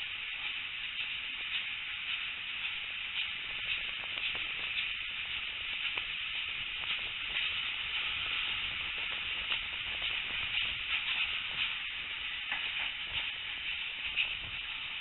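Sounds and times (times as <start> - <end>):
train rushing hiss: 0.0 - 15.0.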